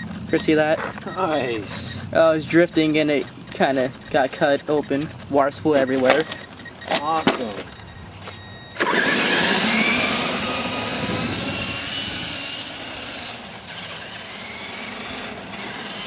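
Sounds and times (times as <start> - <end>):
tyre noise on pavement: 0.0 - 15.8
electric motor and gear whine: 0.0 - 16.0.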